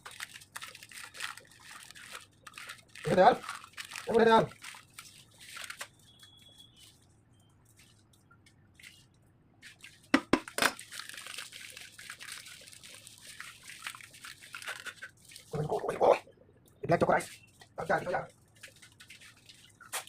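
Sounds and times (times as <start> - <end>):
wet cream squishing and dripping: 0.0 - 20.0.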